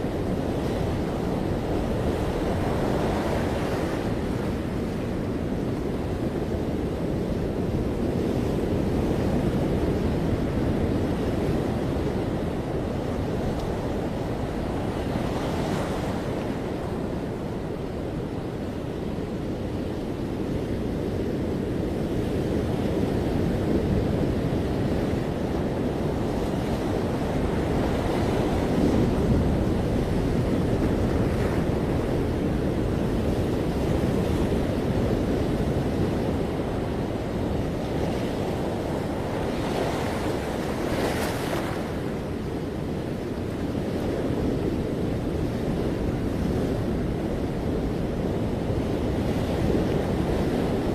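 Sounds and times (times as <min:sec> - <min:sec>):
ocean waves breaking: 0:00.0 - 0:19.8, 0:22.9 - 0:50.9
wind buffeting microphone: 0:00.0 - 0:50.9.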